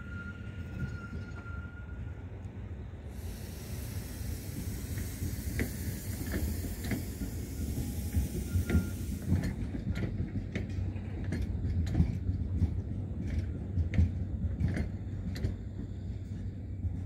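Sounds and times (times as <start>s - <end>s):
tram rumble with hiss: 0.0s - 17.0s
tram wheels clicking on rails: 2.4s - 17.0s.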